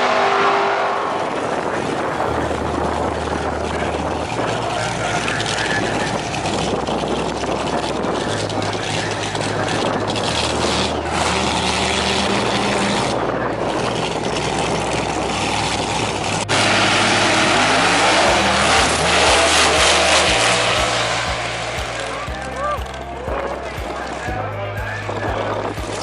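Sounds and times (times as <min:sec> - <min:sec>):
drag racing car engines: 0:00.0 - 0:26.0.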